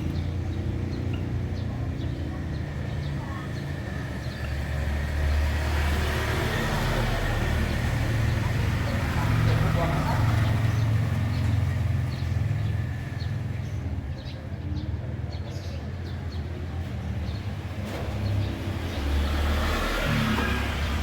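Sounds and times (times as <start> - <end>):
vehicle engine rumbling: 0.0 - 13.8, 17.0 - 21.0
small birds chirping: 0.0 - 21.0.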